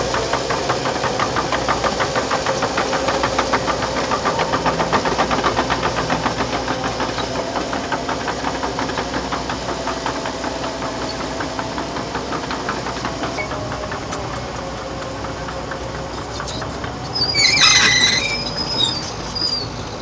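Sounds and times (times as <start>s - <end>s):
diesel engine with whine: 0.0s - 20.0s
steel tracks clanking: 0.0s - 20.0s.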